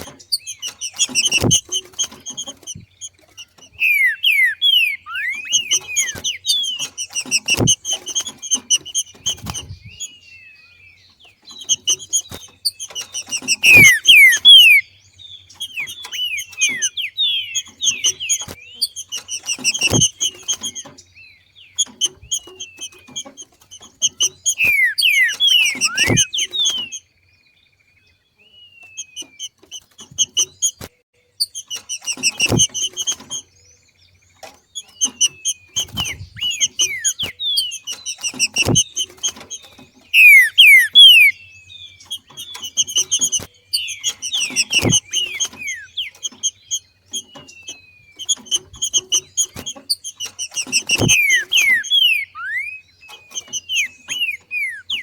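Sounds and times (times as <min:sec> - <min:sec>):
bird whistled notes: 0:00.0 - 0:10.2, 0:11.5 - 0:21.0, 0:21.7 - 0:27.1, 0:28.7 - 0:33.5, 0:34.8 - 0:55.0
bird rapid chattering: 0:00.0 - 0:27.1, 0:28.4 - 0:55.0.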